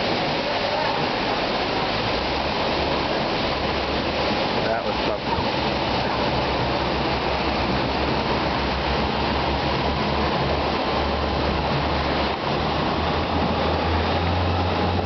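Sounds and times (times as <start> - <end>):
motorboat engine running: 0.0 - 15.0
water rushing: 0.0 - 15.0.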